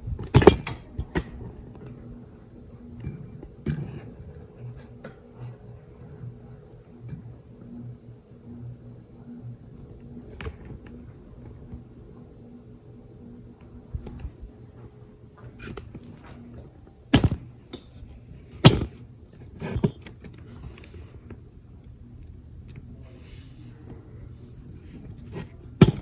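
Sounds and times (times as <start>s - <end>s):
ceiling fan motor humming: 0.0s - 26.0s.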